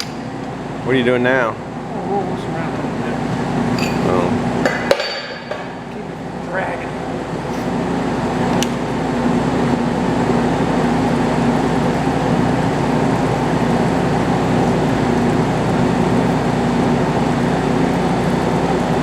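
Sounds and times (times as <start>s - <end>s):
metal lathe running: 1.9s - 19.0s.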